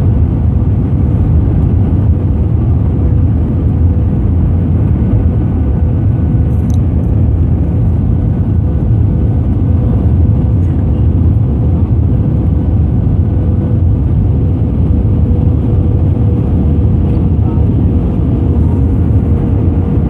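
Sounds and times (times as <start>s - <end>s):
engine and airflow rumble: 0.0s - 20.0s.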